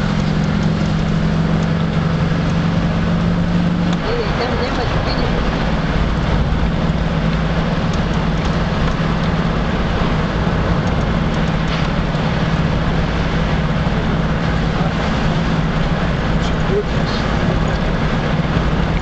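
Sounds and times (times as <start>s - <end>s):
car engine droning: 0.0s - 19.0s
tyre and road noise: 0.0s - 19.0s.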